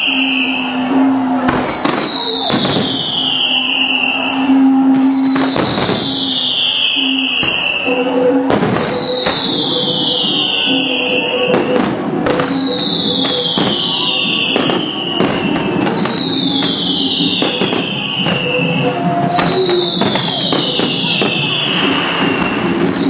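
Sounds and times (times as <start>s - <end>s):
firework whistle falling in pitch: 0.0s - 23.0s
fireworks bangs and crackles: 0.0s - 23.0s.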